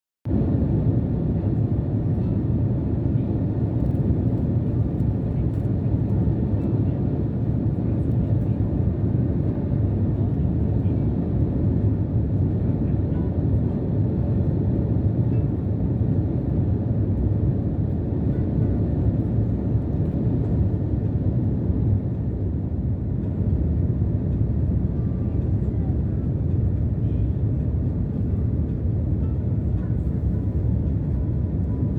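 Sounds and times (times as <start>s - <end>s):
airliner cabin rumble: 0.3s - 31.9s.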